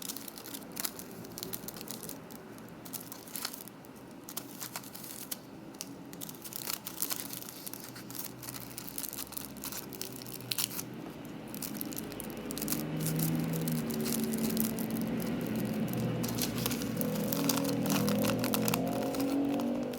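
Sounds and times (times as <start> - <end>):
plastic packaging crinkling: 0.0 - 19.9.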